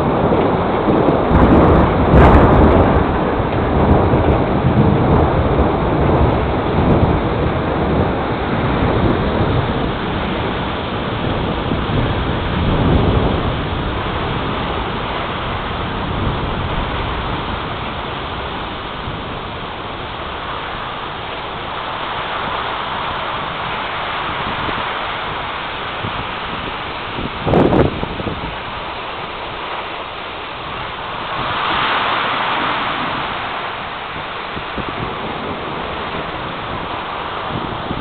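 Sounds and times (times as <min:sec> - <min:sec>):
gusting wind: 0:00.0 - 0:38.0
low thunder rumble: 0:00.0 - 0:38.0
rain: 0:00.0 - 0:38.0.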